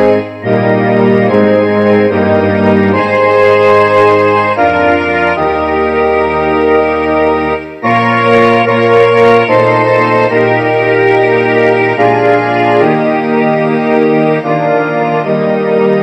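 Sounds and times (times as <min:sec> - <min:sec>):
organ and strings hymn: 0:00.0 - 0:16.0.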